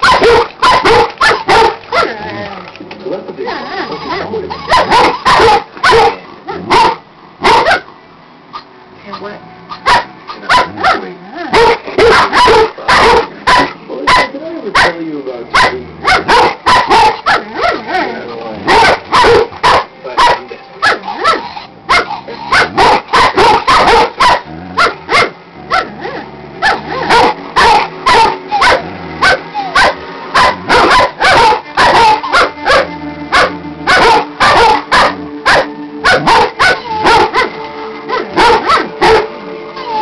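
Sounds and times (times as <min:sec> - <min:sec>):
dog barking rapidly: 0:00.0 - 0:02.2, 0:03.9 - 0:07.9, 0:08.5 - 0:18.0, 0:18.6 - 0:37.5, 0:38.1 - 0:39.3
music playing: 0:00.0 - 0:06.9, 0:08.7 - 0:40.0.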